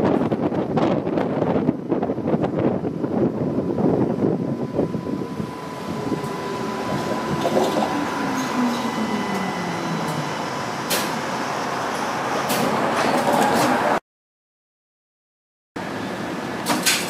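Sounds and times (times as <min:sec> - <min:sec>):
streetcar motor whine: 0:00.0 - 0:14.0, 0:15.8 - 0:17.0.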